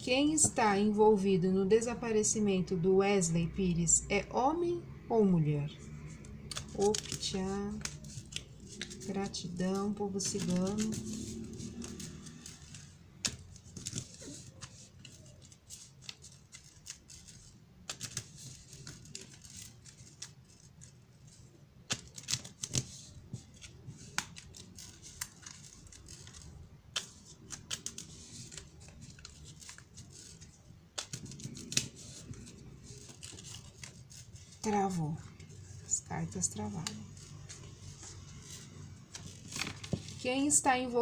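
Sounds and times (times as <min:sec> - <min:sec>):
cards being shuffled: 0:06.0 - 0:40.2.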